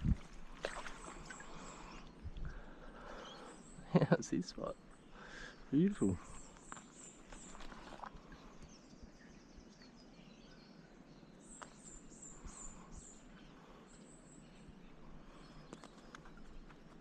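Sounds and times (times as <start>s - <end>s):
faint bird chirps: 0.6s - 17.0s.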